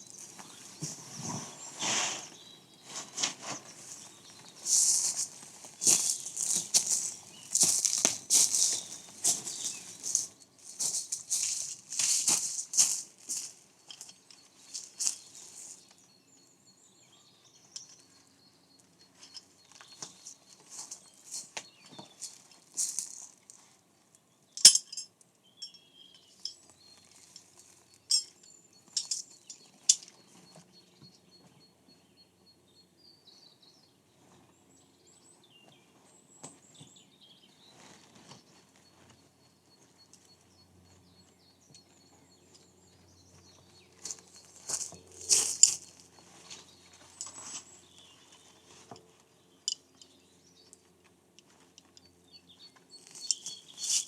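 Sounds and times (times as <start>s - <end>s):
rustling and handling noises: 0.0s - 16.1s, 17.7s - 30.7s, 35.6s - 40.3s, 43.3s - 52.0s, 52.8s - 54.0s.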